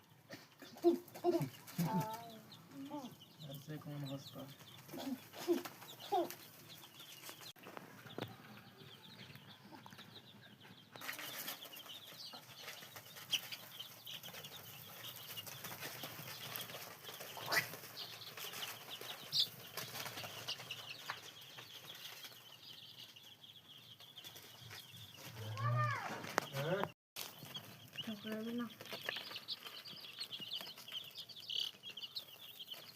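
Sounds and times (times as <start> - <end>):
chickens chirping: 0.0 - 32.9.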